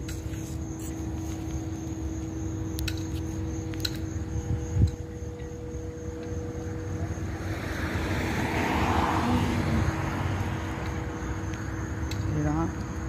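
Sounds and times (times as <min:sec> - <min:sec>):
airplane passing overhead: 0:00.0 - 0:13.0.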